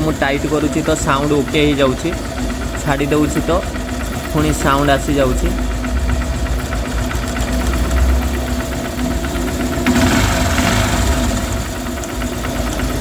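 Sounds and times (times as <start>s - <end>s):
motorcycle engine idling with ticking: 0.0s - 13.0s.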